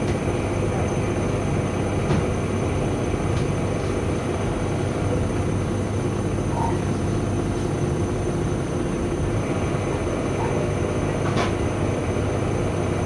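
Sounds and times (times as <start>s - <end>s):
washing machines tumbling laundry: 0.0s - 13.0s.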